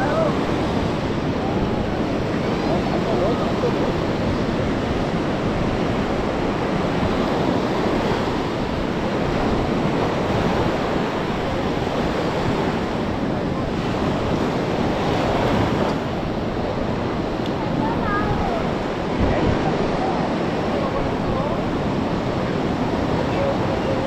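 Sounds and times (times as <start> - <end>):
sea surf washing onto beach: 0.0 - 24.0
wind rumbling on microphone: 0.0 - 24.0.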